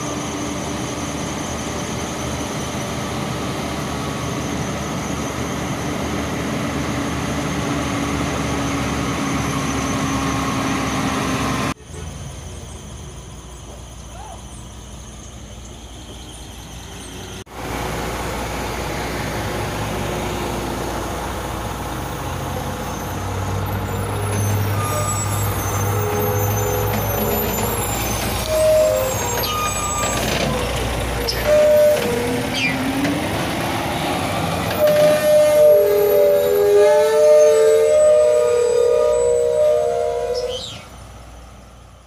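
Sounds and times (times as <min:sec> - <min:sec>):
big tyres rolling: 0:00.0 - 0:42.0
heavy truck engine rumbling: 0:00.0 - 0:42.0.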